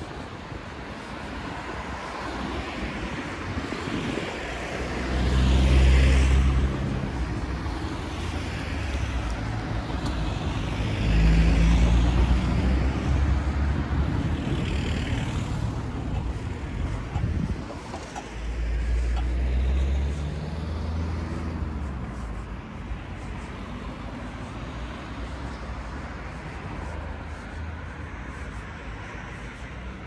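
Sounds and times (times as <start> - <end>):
cars passing close by: 0.0 - 30.0.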